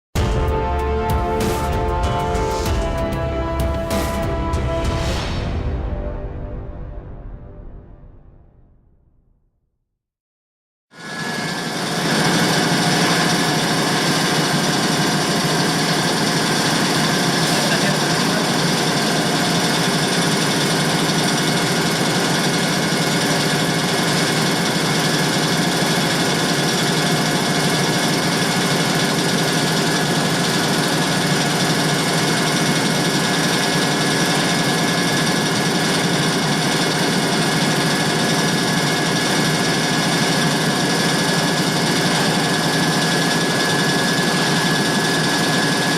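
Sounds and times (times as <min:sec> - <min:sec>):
air compressor running: 0:00.2 - 0:04.8, 0:10.9 - 0:45.9.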